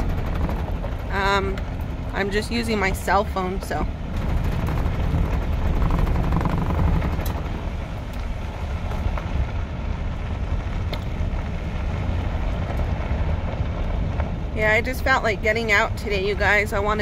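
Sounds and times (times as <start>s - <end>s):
vehicle rumble on dirt road: 0.0s - 17.0s
wind buffeting microphone: 0.0s - 17.0s.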